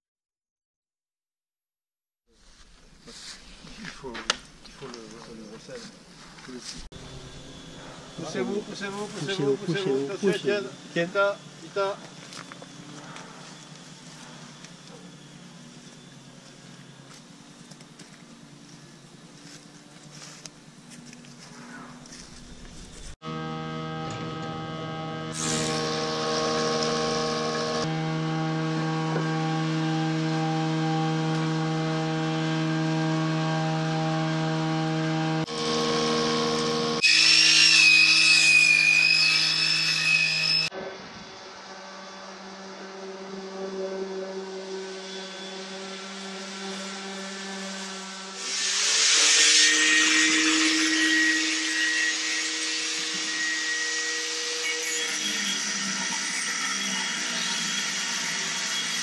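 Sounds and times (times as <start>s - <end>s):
power tool cutting wood: 6.9s - 17.2s, 22.1s - 59.0s.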